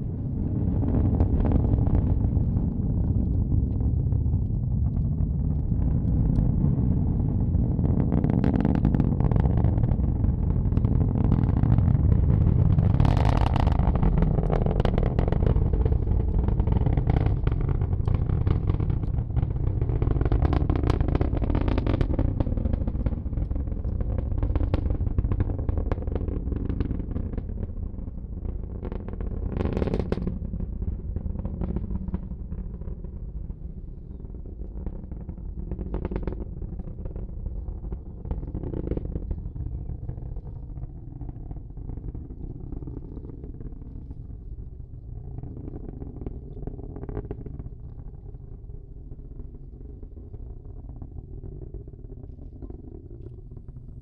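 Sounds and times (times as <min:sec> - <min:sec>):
distant rocket engine roar: 0:00.0 - 0:54.0
sharp crackles: 0:00.5 - 0:54.0.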